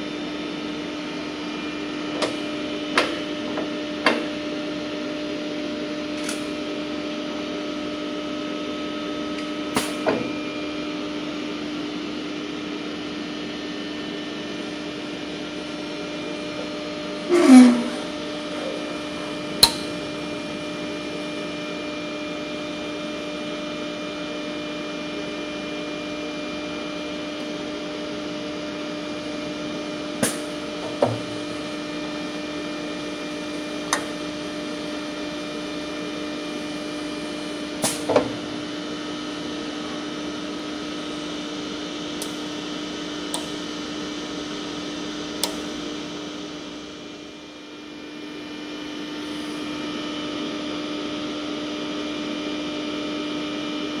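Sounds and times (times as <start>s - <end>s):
welding machine electrical hum: 0.0s - 54.0s.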